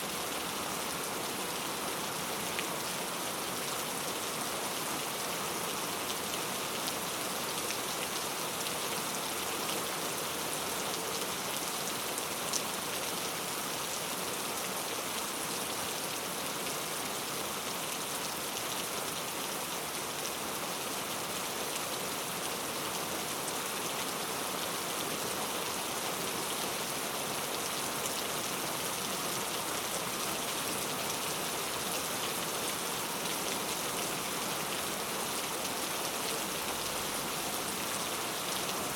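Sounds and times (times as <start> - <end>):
rain falling: 0.1 - 38.9.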